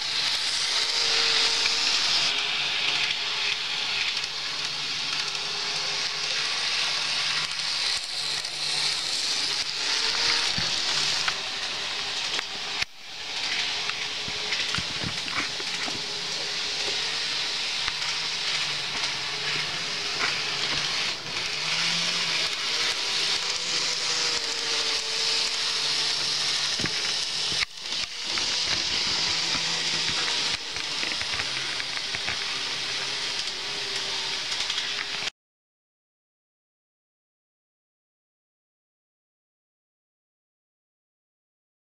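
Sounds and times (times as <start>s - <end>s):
hiss: 0.0s - 35.2s
model train motor hum: 0.0s - 35.3s.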